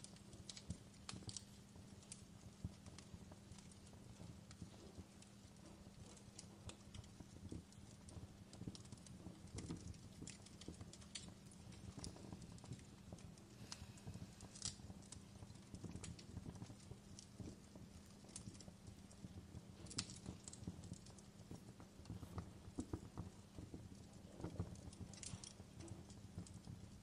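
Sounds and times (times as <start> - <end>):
fireplace crackling: 0.0 - 27.0.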